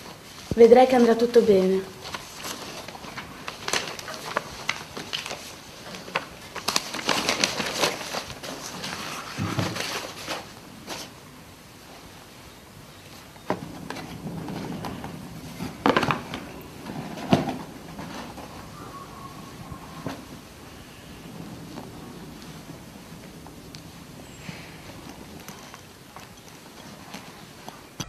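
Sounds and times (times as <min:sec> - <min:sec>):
paper rustling: 0:00.0 - 0:28.0.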